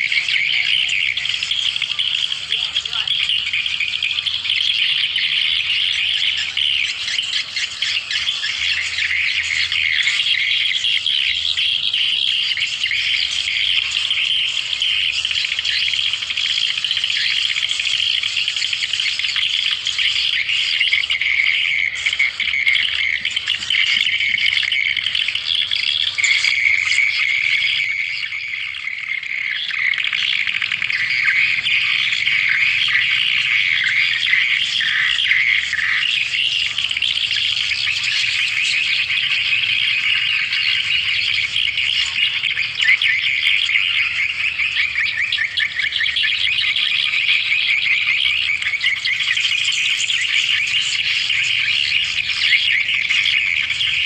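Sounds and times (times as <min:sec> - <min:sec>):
high-pitched bird twittering: 0:00.0 - 0:54.0.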